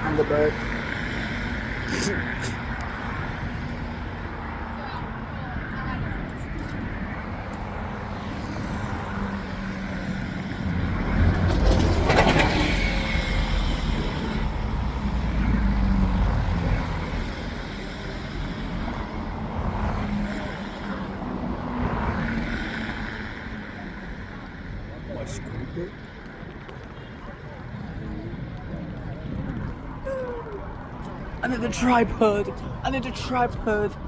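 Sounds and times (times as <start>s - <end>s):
vehicle rumble: 0.0s - 34.0s.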